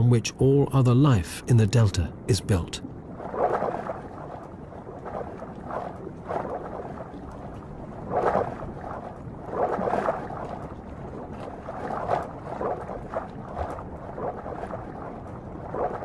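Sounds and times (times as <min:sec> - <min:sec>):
water splashing around a boat: 0:01.8 - 0:16.0.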